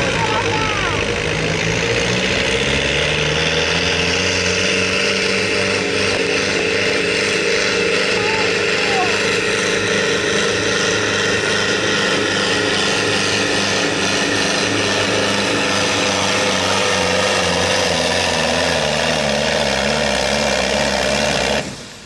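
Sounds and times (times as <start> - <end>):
diesel tractor engine at full throttle: 0.0 - 22.0.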